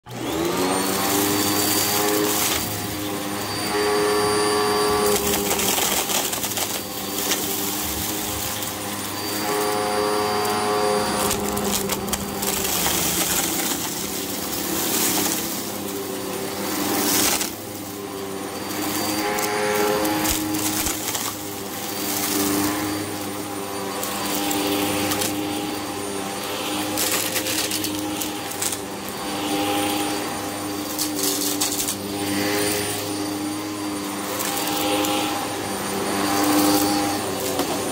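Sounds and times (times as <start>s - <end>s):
vacuum cleaner running on carpet: 0.0s - 37.9s.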